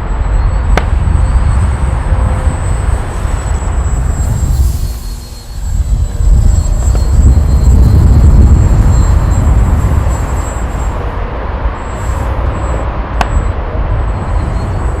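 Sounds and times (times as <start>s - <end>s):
wind buffeting microphone: 0.0s - 15.0s
model plane motor whine: 0.1s - 15.0s.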